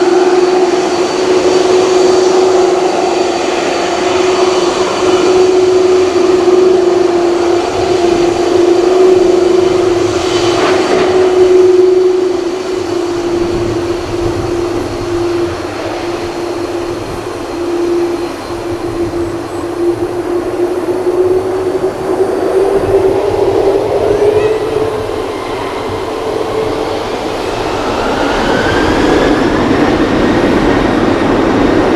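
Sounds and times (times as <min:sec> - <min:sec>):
jet engines running: 0:00.0 - 0:31.9.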